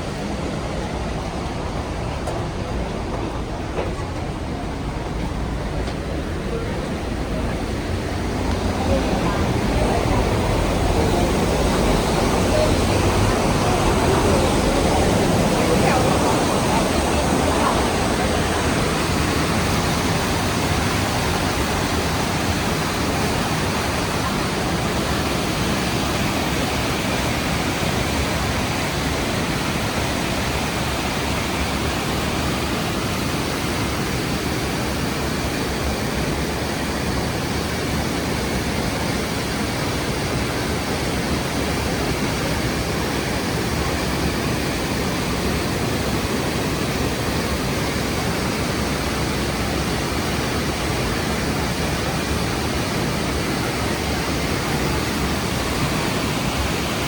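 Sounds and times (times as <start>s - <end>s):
waterfall rushing: 4.4s - 57.0s.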